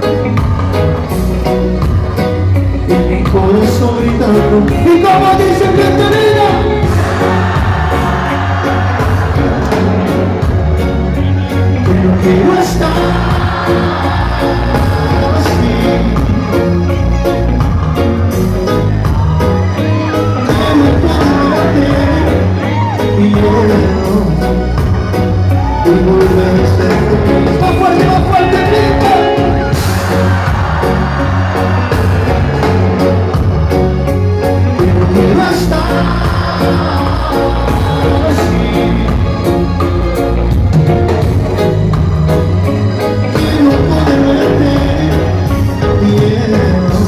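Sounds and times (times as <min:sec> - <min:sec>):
crowd voices: 0:00.0 - 0:47.0
reggae band playing: 0:00.0 - 0:47.0
person singing: 0:02.8 - 0:17.4, 0:18.4 - 0:33.8, 0:34.5 - 0:47.0.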